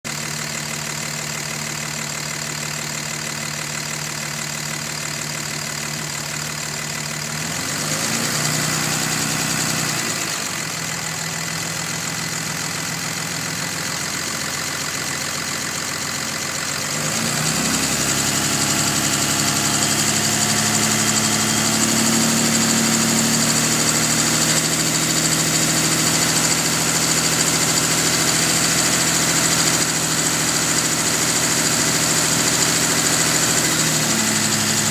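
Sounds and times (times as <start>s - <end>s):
diesel engine idling and revving: 0.1s - 34.9s.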